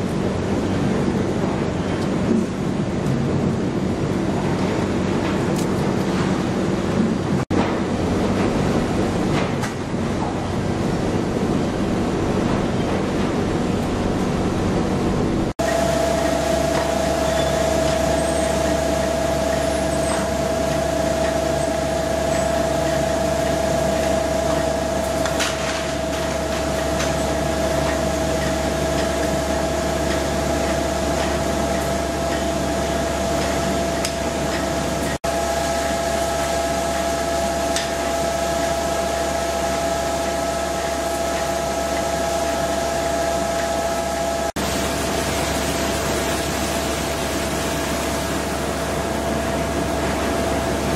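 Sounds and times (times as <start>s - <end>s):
conveyor motors whining: 0.0s - 50.9s.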